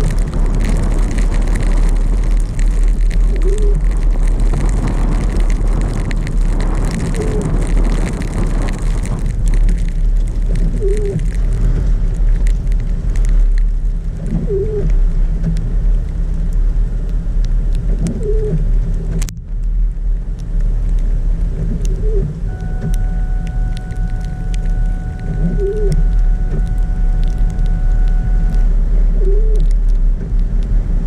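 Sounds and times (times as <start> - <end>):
car cabin rumble: 0.0 - 31.0.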